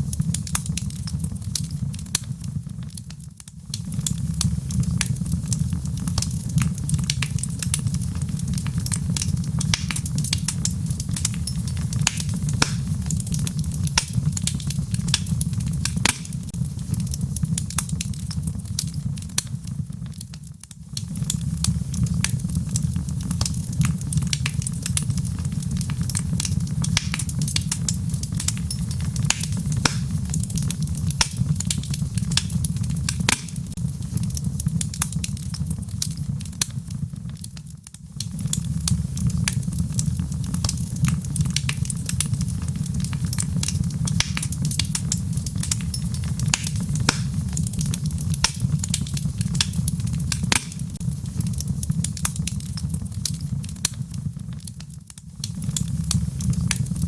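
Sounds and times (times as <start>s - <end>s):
logs burning in fireplace: 0.0s - 57.0s.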